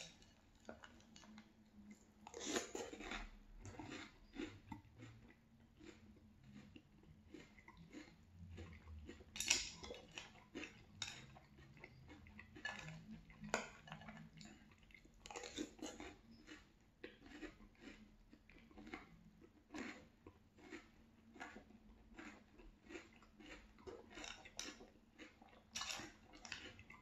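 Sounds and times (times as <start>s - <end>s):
chewing crunchy cereal: 0.0s - 27.0s.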